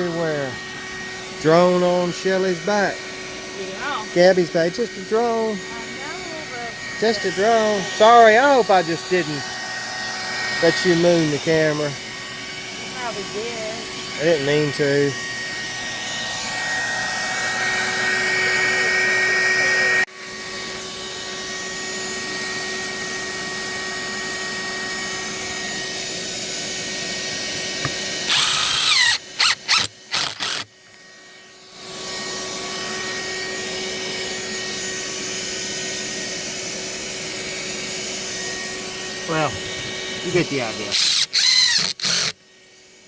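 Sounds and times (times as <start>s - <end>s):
power drill spinning: 0.0s - 20.0s, 21.6s - 42.4s
steady motor hum: 0.0s - 43.0s.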